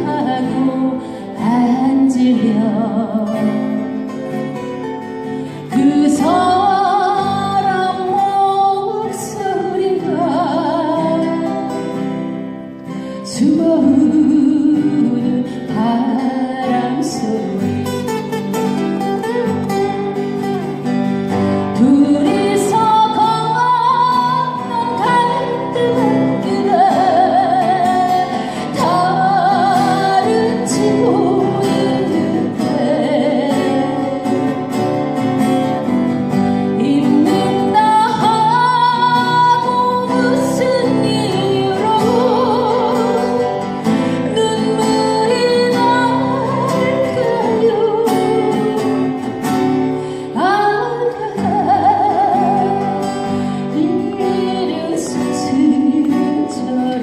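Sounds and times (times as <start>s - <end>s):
acoustic guitar: 0.0s - 57.0s
woman singing ballad: 0.0s - 57.0s.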